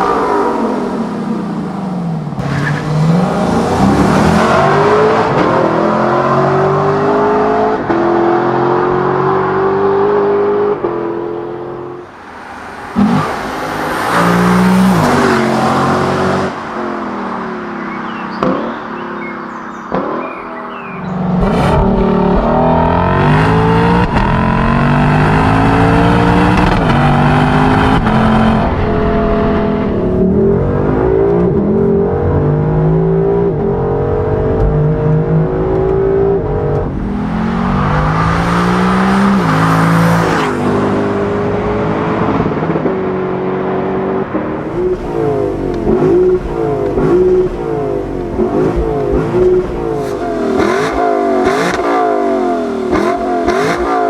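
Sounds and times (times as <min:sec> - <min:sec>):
car engine accelerating hard: 0:00.0 - 0:12.0, 0:18.0 - 0:54.0.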